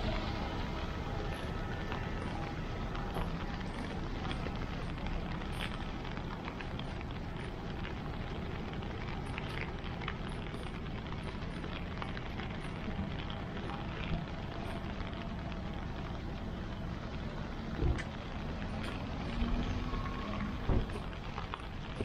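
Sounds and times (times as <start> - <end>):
faint crackles and clicks: 0.0 - 22.0
low street rumble: 0.0 - 22.0.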